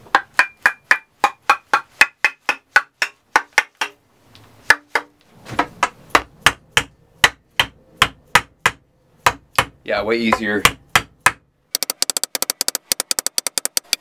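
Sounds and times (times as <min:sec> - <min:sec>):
rubber mallet tapping metal: 0:00.1 - 0:04.0, 0:05.8 - 0:14.0.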